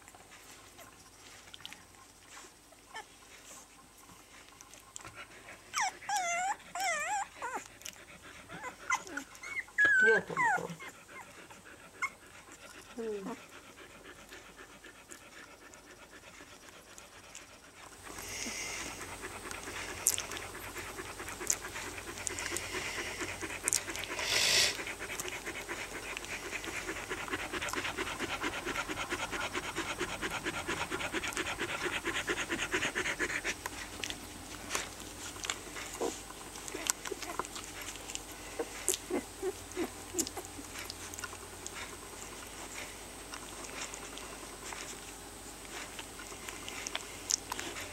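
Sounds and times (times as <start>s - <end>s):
puppies suckling clicks: 0.0s - 2.5s, 3.3s - 10.0s, 10.8s - 47.9s
dog panting: 0.0s - 47.9s
rustle: 0.0s - 47.9s.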